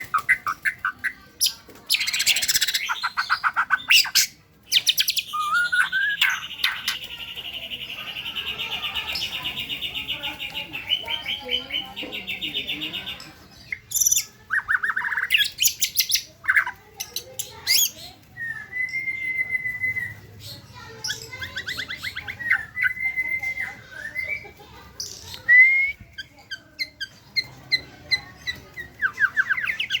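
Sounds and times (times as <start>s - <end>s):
songbird singing trills and whistles: 0.0s - 30.0s.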